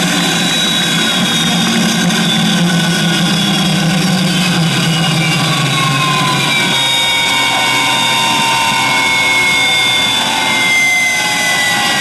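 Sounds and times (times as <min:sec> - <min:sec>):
motor and gear whine: 0:00.0 - 0:12.0.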